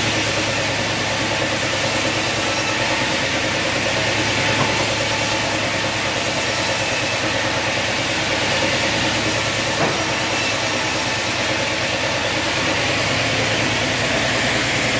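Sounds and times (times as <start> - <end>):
band sawmill sawing log: 0.0 - 14.9.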